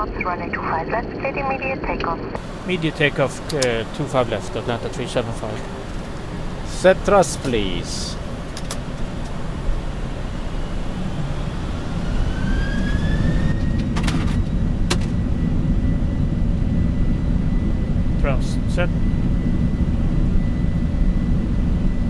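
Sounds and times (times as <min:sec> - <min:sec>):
jet engines spooling up: 0:02.4 - 0:22.0.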